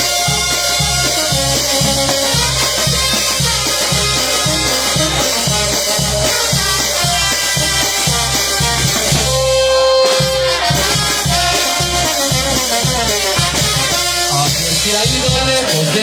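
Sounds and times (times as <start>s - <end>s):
sustained wind or brass lines: 0.0s - 14.8s
bass and drum beat: 0.0s - 16.0s
live band music: 0.0s - 16.0s.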